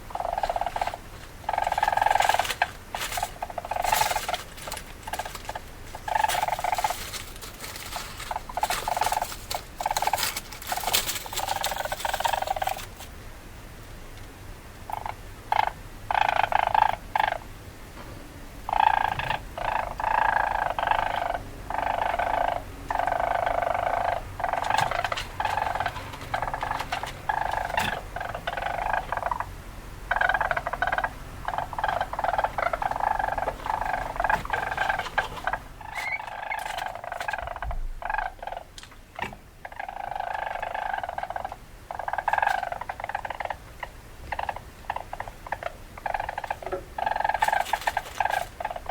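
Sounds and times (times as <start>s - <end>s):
weasel calls: 0.0s - 12.9s, 14.9s - 17.5s, 18.7s - 48.9s.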